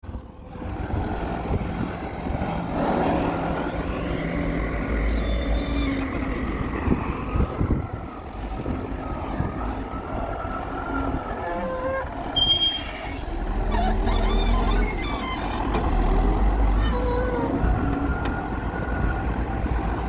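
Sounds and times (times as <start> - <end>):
wheel loader diesel engine: 0.0 - 20.0.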